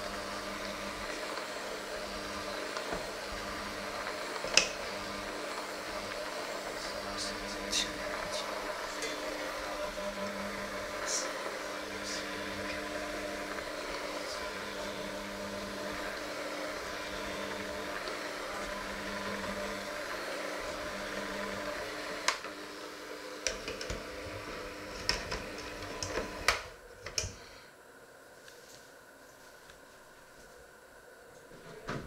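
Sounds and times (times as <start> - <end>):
electric hand mixer running: 0.0 - 28.1.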